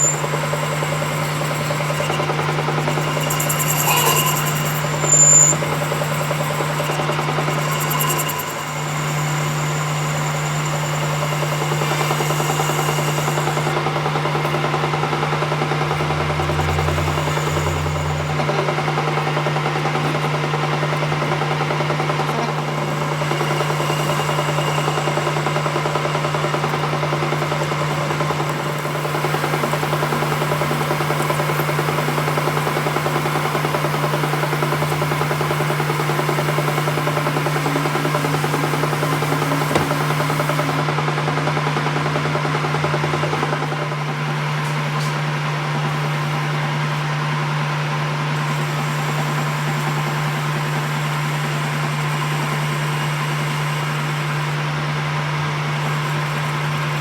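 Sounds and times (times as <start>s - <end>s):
workshop machine humming: 0.0s - 57.0s.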